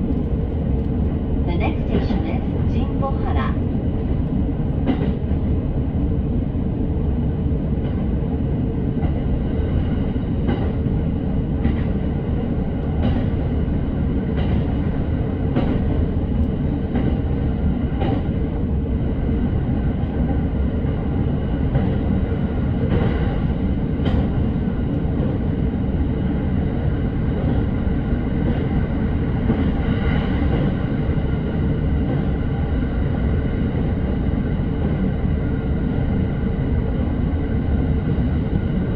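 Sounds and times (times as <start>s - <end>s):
train rumble inside carriage: 0.0s - 38.9s.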